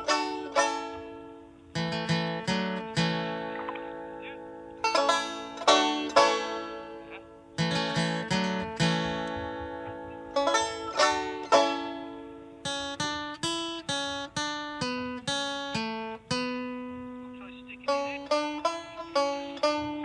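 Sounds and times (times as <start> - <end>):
plucked acoustic string instrument: 0.0 - 20.0.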